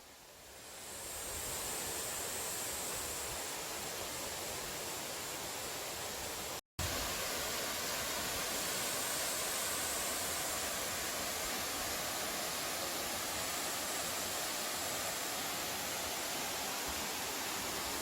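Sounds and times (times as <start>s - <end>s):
stream flowing over rocks: 0.3s - 18.0s.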